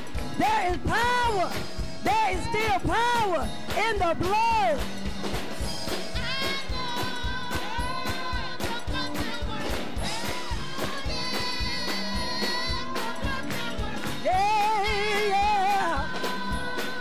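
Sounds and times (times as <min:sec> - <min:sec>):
gospel singing voices: 0:00.0 - 0:17.0
steady beat: 0:00.0 - 0:17.0.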